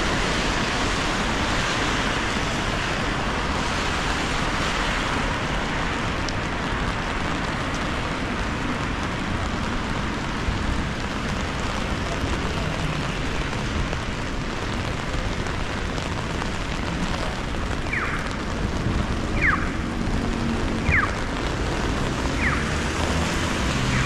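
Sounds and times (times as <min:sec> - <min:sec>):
rain on an umbrella: 0:00.0 - 0:24.0.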